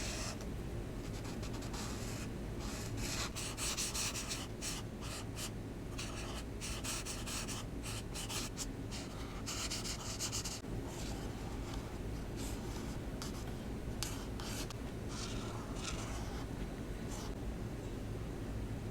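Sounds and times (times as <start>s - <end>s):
marker scratching on paper: 1.1s - 16.5s.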